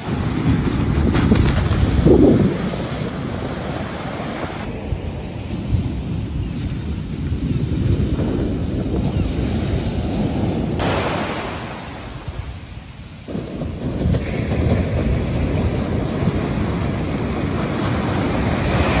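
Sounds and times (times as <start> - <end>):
surf crashing on beach: 0.0 - 19.0
wind on microphone: 0.0 - 19.0.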